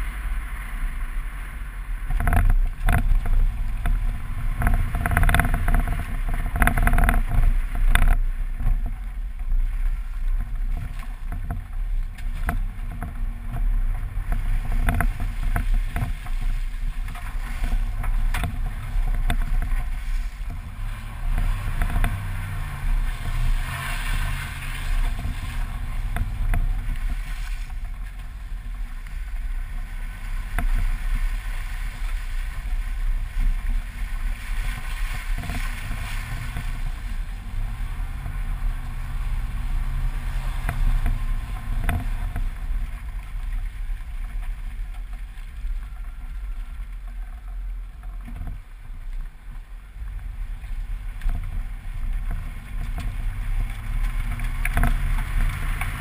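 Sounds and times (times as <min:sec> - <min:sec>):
tyres splashing through mud: 0:00.0 - 0:56.0
vehicle engine rumbling and revving: 0:00.0 - 0:56.0.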